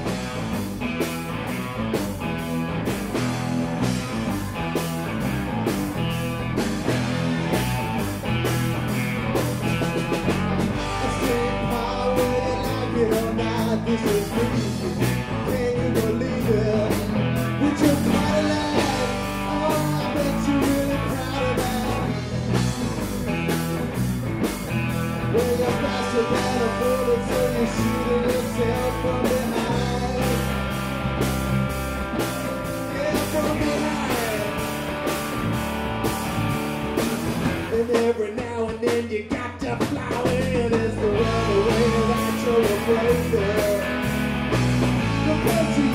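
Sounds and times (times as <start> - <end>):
rock band playing live: 0.0 - 45.9.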